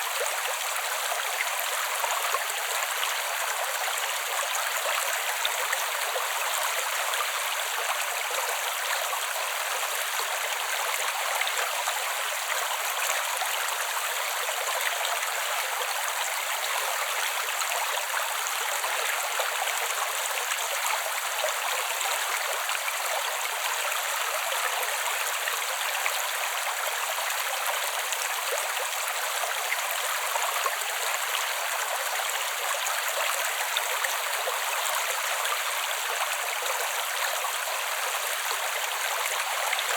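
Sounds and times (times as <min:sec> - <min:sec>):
creek water running over rocks: 0:00.0 - 0:39.9.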